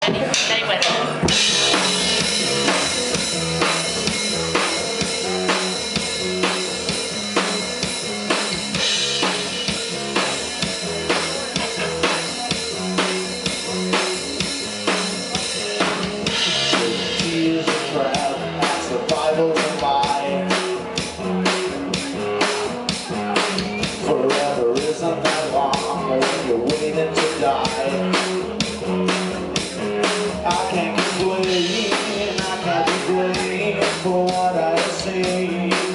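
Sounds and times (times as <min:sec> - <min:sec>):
band playing instrumental live: 0:00.0 - 0:35.9
steady drum beat: 0:00.0 - 0:35.9.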